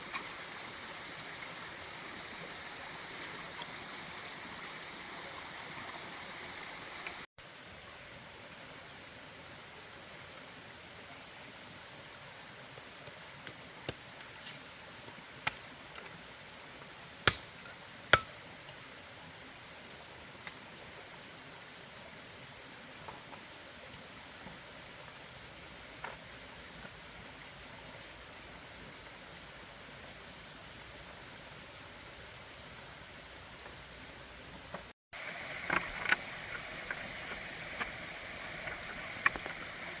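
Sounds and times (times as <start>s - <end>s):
insects chirping in trills: 0.0s - 40.0s.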